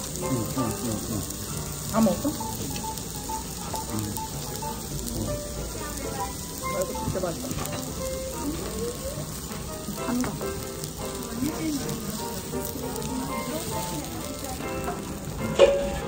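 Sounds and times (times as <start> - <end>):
food sizzling: 0.0 - 16.0.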